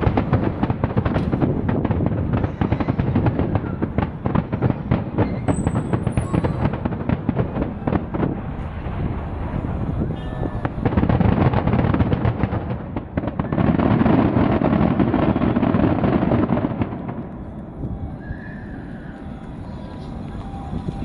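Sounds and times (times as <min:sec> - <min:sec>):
fireworks booming and crackling: 0:00.0 - 0:21.0.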